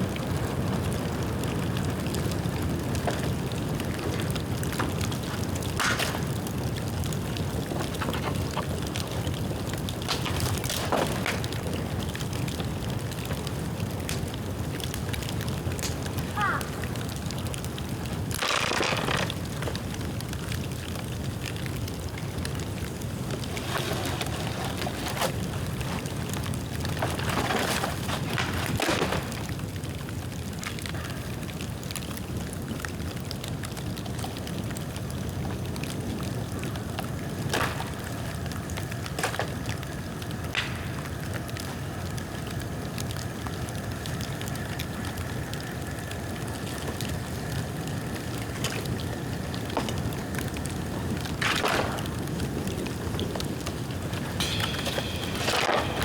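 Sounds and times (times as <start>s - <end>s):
bonfire burning with a rush: 0.0s - 56.0s
fire crackling and popping: 0.0s - 56.0s.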